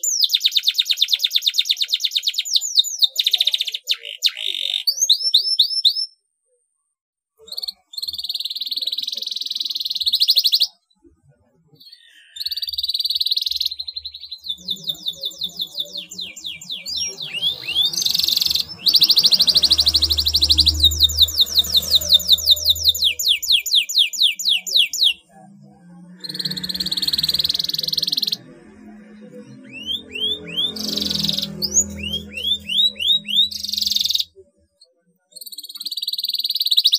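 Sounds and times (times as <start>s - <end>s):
canary singing: 0.0s - 6.2s, 7.4s - 10.8s, 11.7s - 36.9s.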